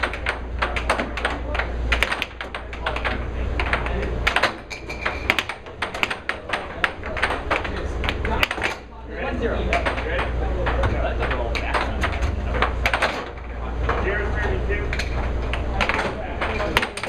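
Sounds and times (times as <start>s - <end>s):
air hockey puck clacking: 0.0s - 8.9s, 9.6s - 17.0s.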